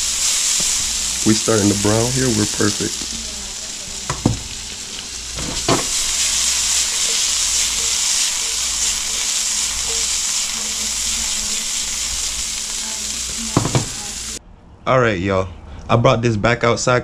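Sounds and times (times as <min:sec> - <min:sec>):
fish sizzling in a frying pan: 0:00.0 - 0:14.4.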